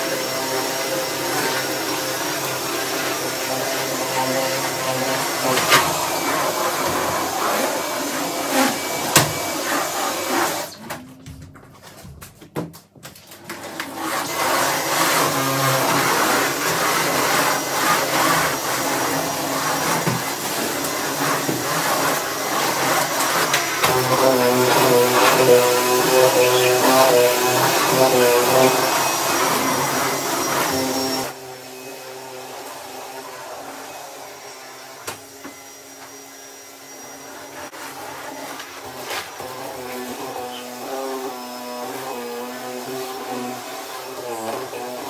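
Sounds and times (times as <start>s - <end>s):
vacuum cleaner running: 0.0s - 11.1s, 13.3s - 45.0s.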